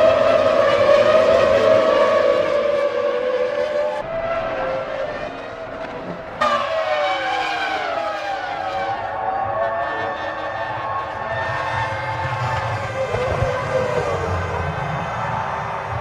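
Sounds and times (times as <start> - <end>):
racing car engines at high revs: 0.0 - 16.0.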